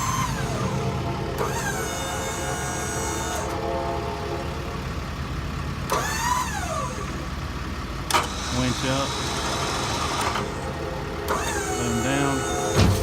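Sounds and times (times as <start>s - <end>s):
crane drive motor whining: 0.0s - 13.0s
diesel engine idling: 0.0s - 13.0s.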